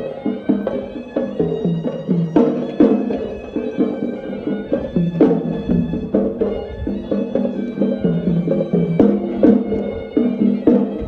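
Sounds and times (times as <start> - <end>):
reedy pipe melody: 0.0 - 11.0
sharp drum strokes: 0.0 - 11.0.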